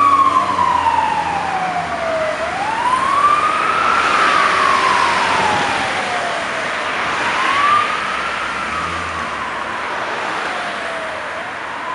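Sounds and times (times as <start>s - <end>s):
fire engine wail siren: 0.0s - 11.9s
passing car traffic: 0.0s - 11.9s.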